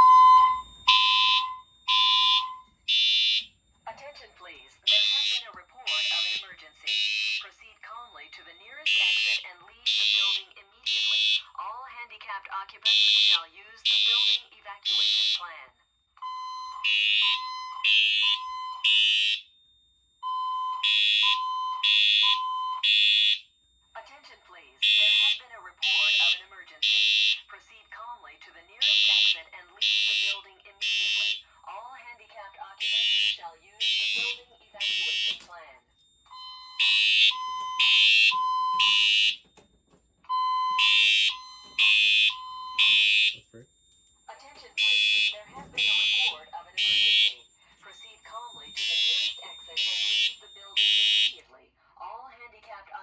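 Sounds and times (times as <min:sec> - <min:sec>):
harsh alarm horn pulses: 0:00.0 - 0:04.2, 0:04.8 - 0:11.5, 0:12.9 - 0:15.6, 0:16.2 - 0:23.5, 0:24.8 - 0:27.6, 0:28.8 - 0:31.6, 0:32.7 - 0:35.5, 0:36.3 - 0:39.6, 0:40.3 - 0:43.6, 0:44.2 - 0:51.4
fire alarm steady tone pulses: 0:00.0 - 0:51.5.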